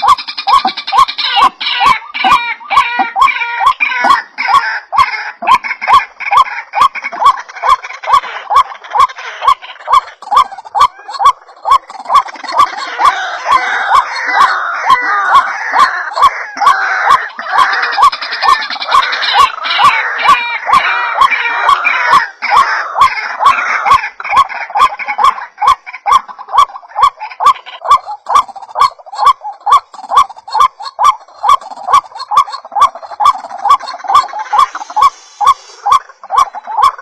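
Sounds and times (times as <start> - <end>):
harsh overlapping bird chatter: 0.0 - 37.0.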